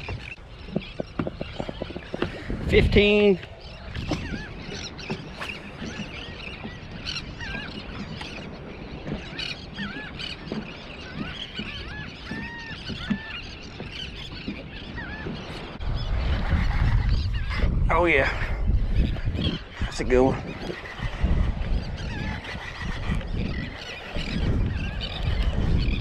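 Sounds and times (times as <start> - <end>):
flock of birds calling: 0.0 - 26.0.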